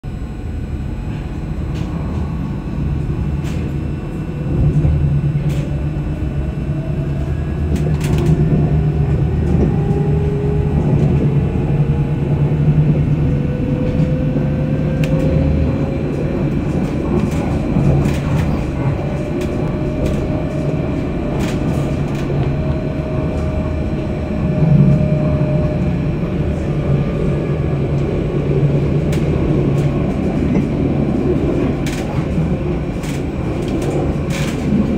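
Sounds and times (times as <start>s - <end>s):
wheels rumbling on rails: 0.0s - 34.9s
tram traction motors whining: 0.1s - 34.9s.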